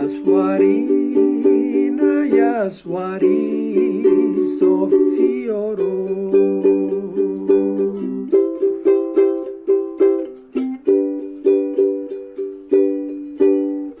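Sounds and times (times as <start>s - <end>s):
ukulele strumming chords: 0.0s - 14.0s.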